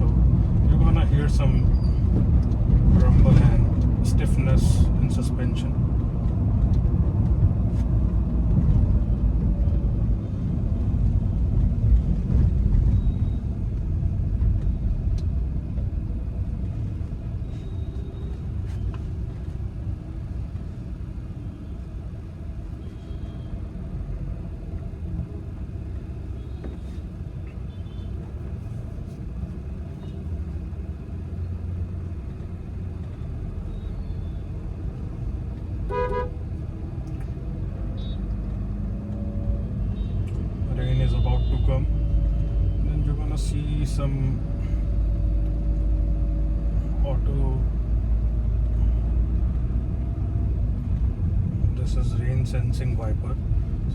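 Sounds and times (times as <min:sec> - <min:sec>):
tyres rumbling over rough road: 0:00.0 - 0:53.9.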